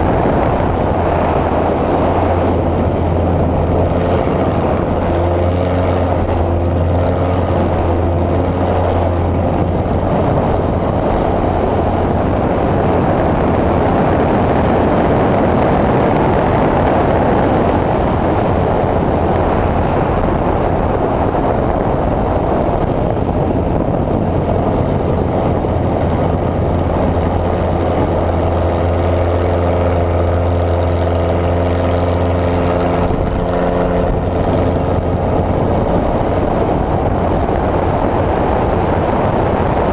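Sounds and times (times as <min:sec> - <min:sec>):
propeller plane engine drone: 0:00.0 - 0:39.9
rushing noise: 0:00.0 - 0:39.9.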